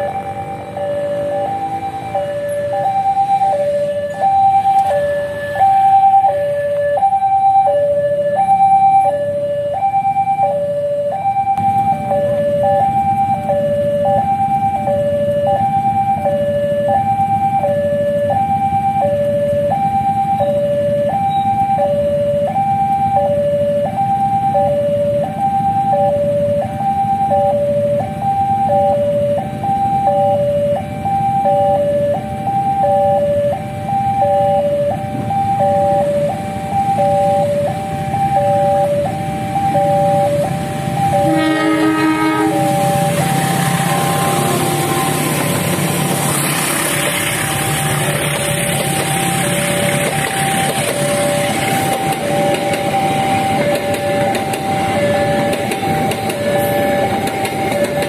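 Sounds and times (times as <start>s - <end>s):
level crossing two-tone alarm: 0.0s - 58.0s.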